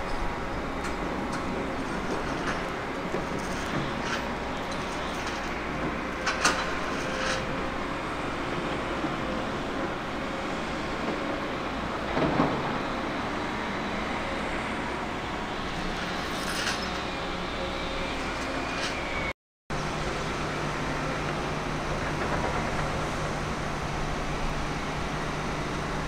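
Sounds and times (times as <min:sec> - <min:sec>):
excavator diesel engine running: 0:00.0 - 0:26.0
truck engine: 0:00.1 - 0:26.0.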